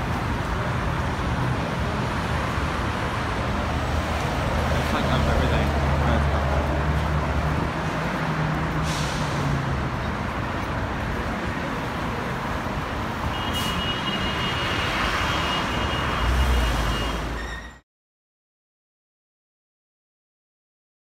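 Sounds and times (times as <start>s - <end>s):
street traffic rumble: 0.0s - 17.8s.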